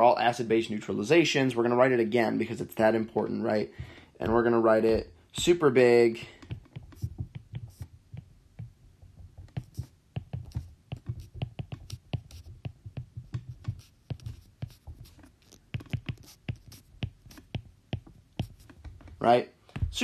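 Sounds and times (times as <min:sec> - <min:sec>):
stylus tapping and scratching: 0:03.0 - 0:20.0.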